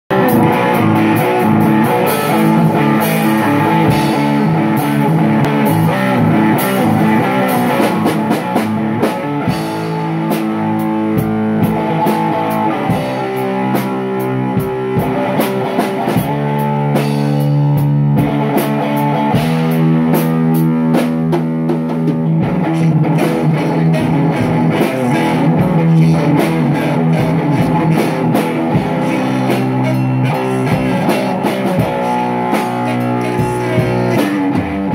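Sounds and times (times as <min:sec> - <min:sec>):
drum kit beat: 0:00.1 - 0:34.9
rock guitar: 0:00.1 - 0:34.9.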